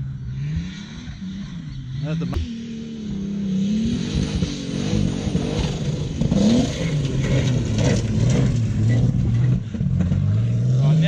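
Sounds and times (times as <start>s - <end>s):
turbocharged car engine revving: 0.0s - 11.0s.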